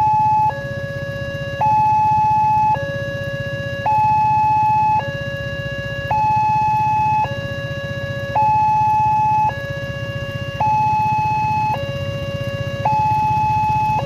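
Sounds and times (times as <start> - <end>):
low engine rumble: 0.0 - 14.0
two-tone crossing alarm: 0.0 - 14.0.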